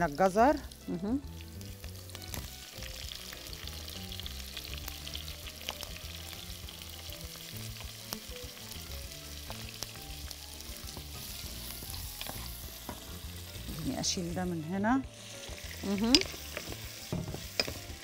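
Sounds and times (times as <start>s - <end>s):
shrimp sizzling in hot oil: 0.0s - 18.0s.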